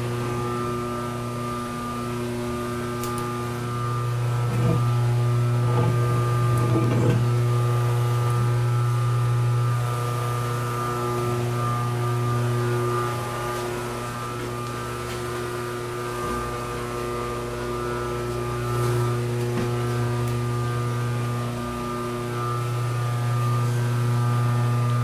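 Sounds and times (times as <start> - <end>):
electric machine hum: 0.0 - 25.0.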